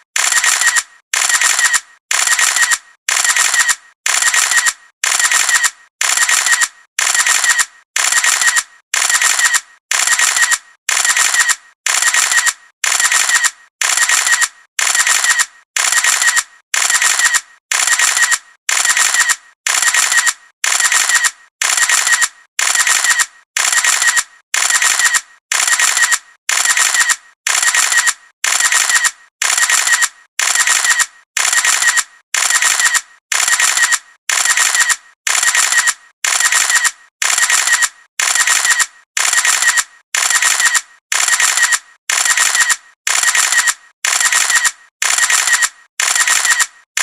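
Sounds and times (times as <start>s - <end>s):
camera shutter whirr-click: 0.2s - 47.0s.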